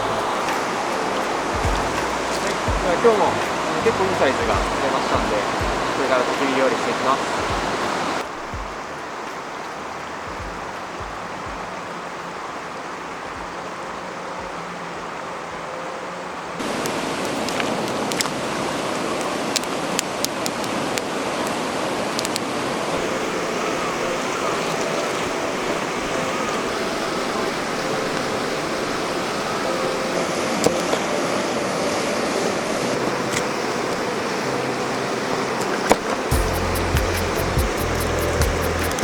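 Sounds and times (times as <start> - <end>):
river stream rushing: 0.0 - 39.0.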